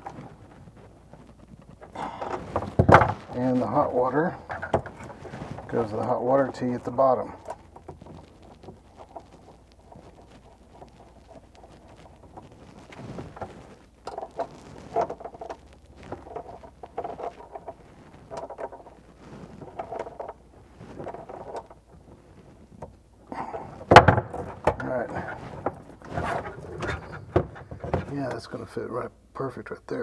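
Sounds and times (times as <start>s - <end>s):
handling rustles: 0.0s - 28.8s.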